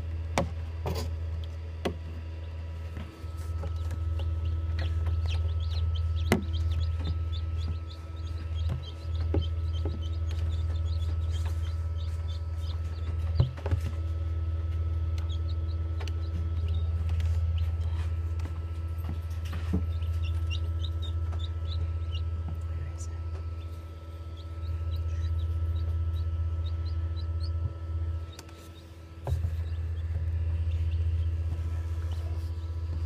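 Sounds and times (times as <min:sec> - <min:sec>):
steady low hum: 0:00.0 - 0:33.0
chicks peeping: 0:02.4 - 0:33.0.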